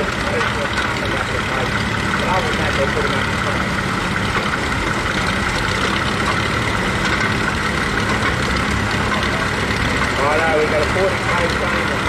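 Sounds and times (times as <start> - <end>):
crawler tractor passing: 0.0 - 12.0
tractor engines running: 0.0 - 12.0.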